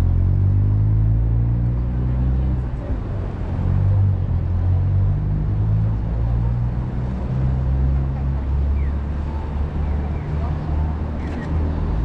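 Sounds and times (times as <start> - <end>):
city street traffic rumble: 0.0 - 12.0
faint distant street sounds: 0.0 - 12.0.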